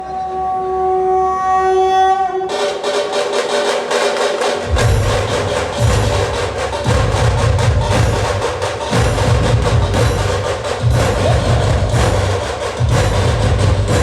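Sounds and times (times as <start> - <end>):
deep dhol drum beats: 2.5 - 14.0
rapid tasha drum strokes: 2.5 - 14.0.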